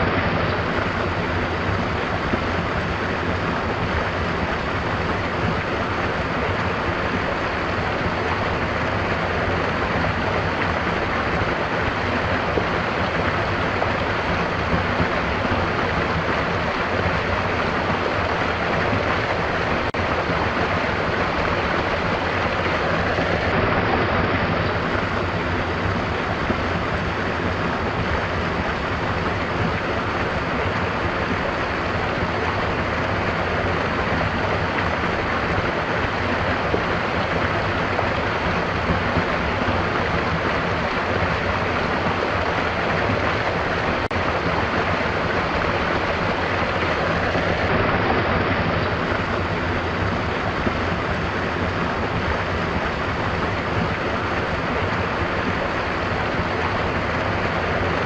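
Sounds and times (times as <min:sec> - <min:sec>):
stream of water flowing: 0:00.0 - 0:58.0.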